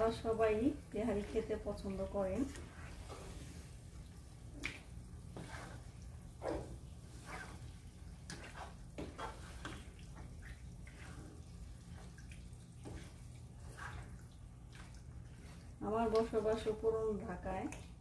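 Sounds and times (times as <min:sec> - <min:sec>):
spatula stirring meat in a pan: 0:00.0 - 0:17.2
low steady hum: 0:00.0 - 0:18.0.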